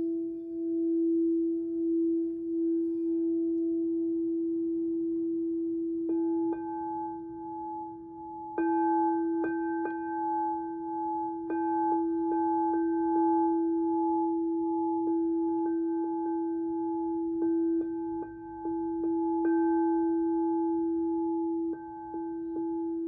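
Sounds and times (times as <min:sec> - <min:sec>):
low singing bowl tone: 0:00.0 - 0:23.0.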